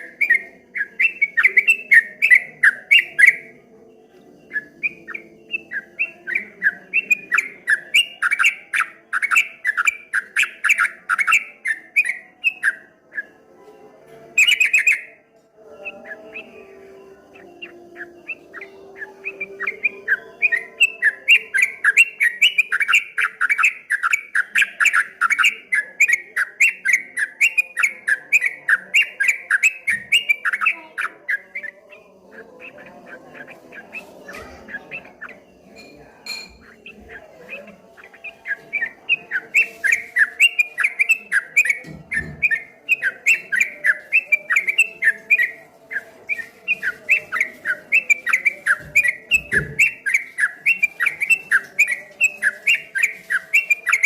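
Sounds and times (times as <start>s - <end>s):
bird singing chattering notes: 0.0s - 12.9s, 14.4s - 15.2s, 15.9s - 54.0s.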